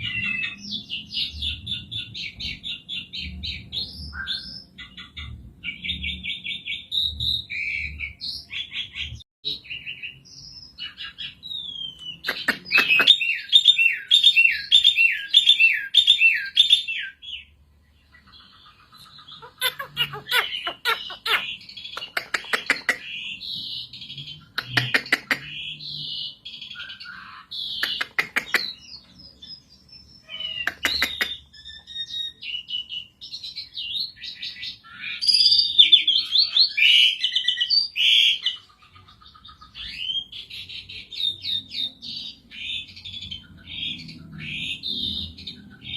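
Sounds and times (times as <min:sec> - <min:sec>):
starling singing: 0:00.0 - 0:45.9.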